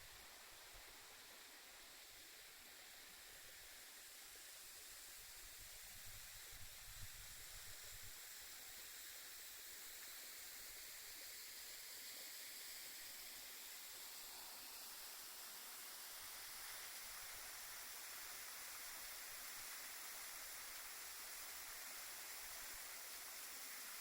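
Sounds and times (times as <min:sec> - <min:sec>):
waterfall rushing hiss: 0:00.0 - 0:24.0.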